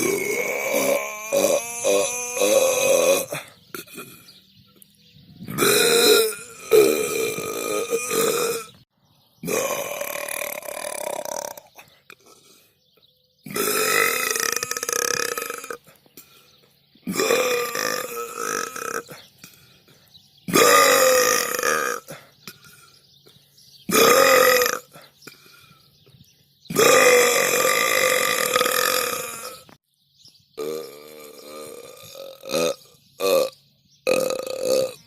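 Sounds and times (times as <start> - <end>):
person burping: 0.0 - 4.5, 5.4 - 8.8, 9.4 - 12.7, 13.4 - 16.4, 17.0 - 19.6, 20.5 - 22.9, 23.9 - 25.7, 26.7 - 29.7, 30.6 - 35.0.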